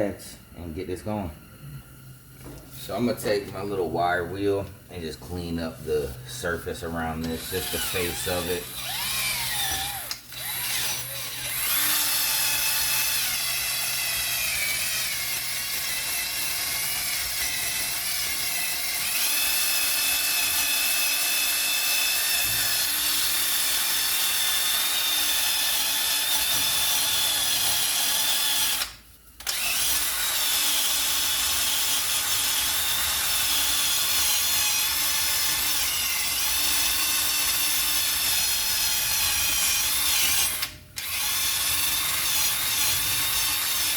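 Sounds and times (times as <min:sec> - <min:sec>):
power tool wire wheel grinding: 0:07.0 - 0:43.9.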